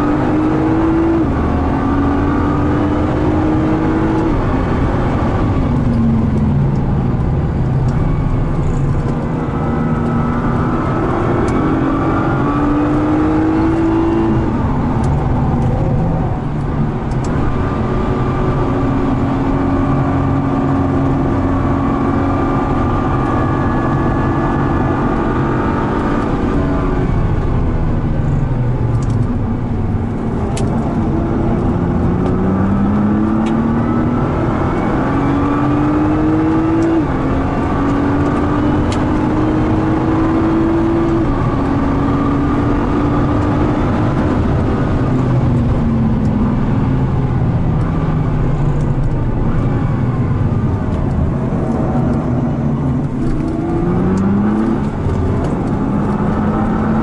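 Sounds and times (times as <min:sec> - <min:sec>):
car engine revving through gears: 0:00.0 - 0:57.0
tyre and road noise: 0:00.0 - 0:57.0.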